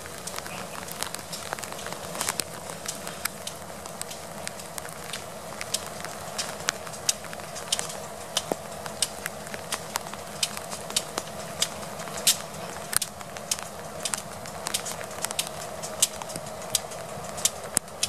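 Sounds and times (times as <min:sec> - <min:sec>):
raindrops ticking: 0:00.0 - 0:18.0.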